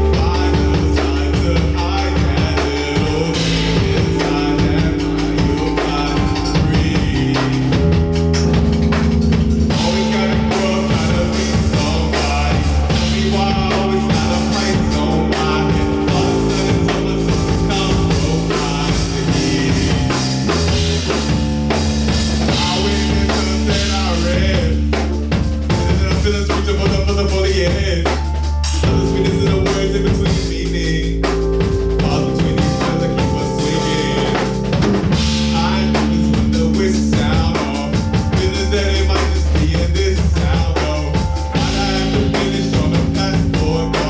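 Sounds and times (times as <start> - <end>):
drum kit steady beat: 0.0 - 44.0
sustained bass notes: 0.0 - 44.0.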